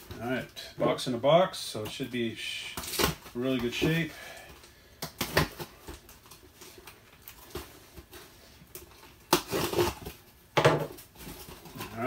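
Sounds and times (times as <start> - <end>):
cardboard rustling and crinkling: 1.8 - 12.0.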